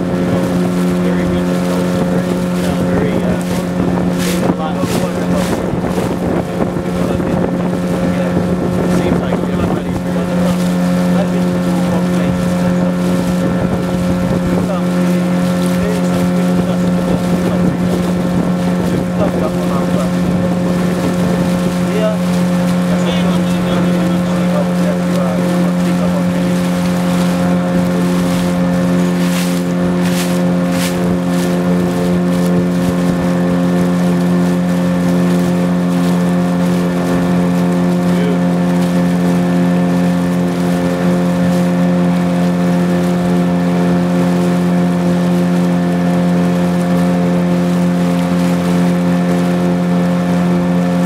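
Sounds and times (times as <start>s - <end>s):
boat engine humming: 0.0s - 51.0s.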